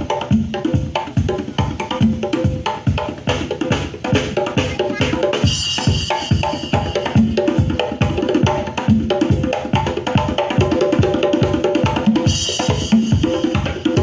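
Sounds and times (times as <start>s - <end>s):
loud music with drum beat: 0.0s - 14.0s.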